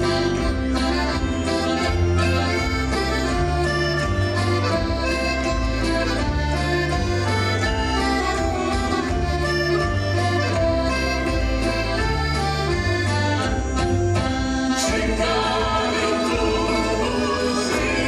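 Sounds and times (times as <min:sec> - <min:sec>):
accordion playing folk dance tune: 0:00.0 - 0:18.0.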